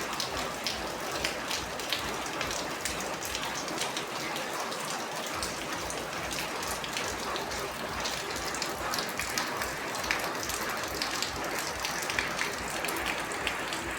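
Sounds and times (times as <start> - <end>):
rain on a hard surface: 0.0 - 13.9
raindrops ticking: 0.0 - 13.9.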